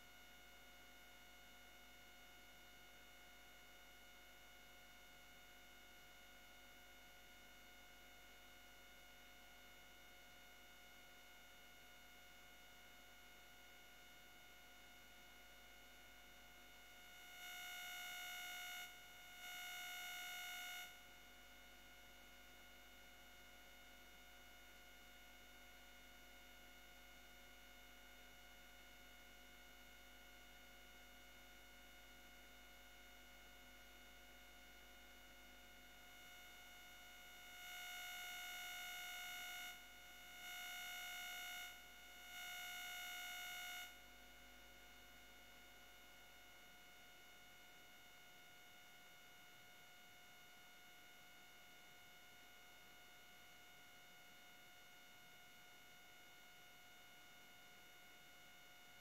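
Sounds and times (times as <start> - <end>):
faint steady hum: 0.0 - 59.0
faint steady whine: 0.0 - 59.0.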